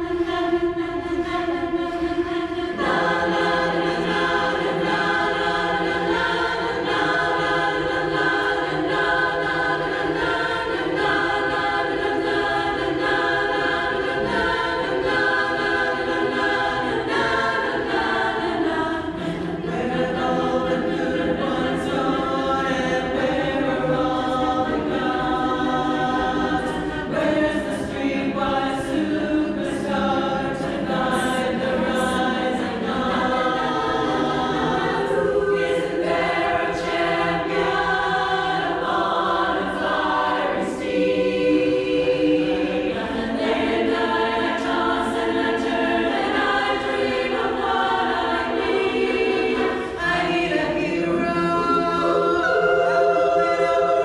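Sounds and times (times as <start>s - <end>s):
women's chorus singing a cappella: 0.0s - 54.0s.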